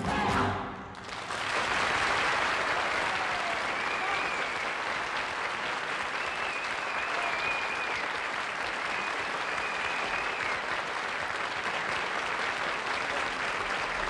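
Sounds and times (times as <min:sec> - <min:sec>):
audience applauding: 0:00.9 - 0:14.0.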